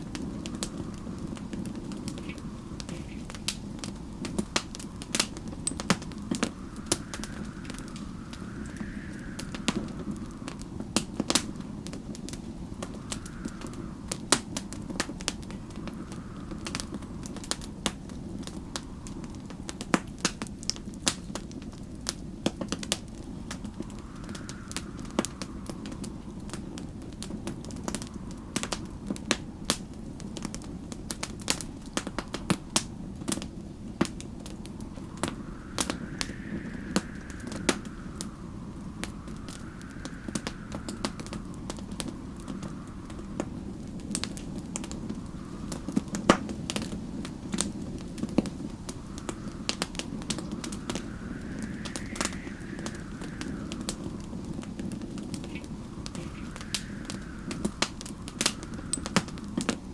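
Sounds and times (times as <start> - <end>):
faint whistling wind: 0.0 - 59.9
wood fire crackling and popping: 0.0 - 59.9.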